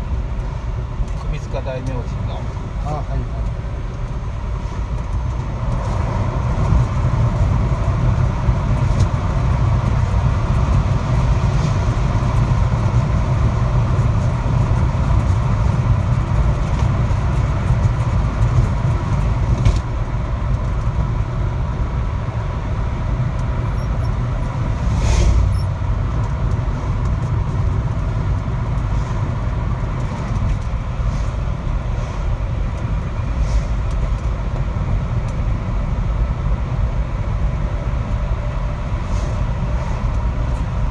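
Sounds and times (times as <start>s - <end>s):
road and engine rumble in car: 0.0s - 40.9s.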